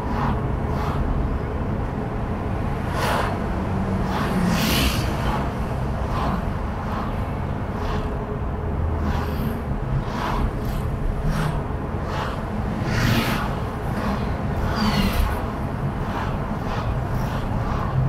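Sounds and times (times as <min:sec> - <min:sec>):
road rumble from moving car: 0:00.0 - 0:18.0
vehicles passing: 0:00.0 - 0:18.0.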